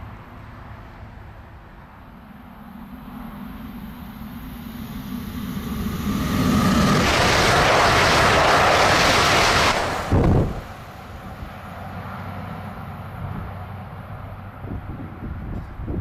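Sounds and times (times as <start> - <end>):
high-speed train rushing past: 0.0 - 16.0.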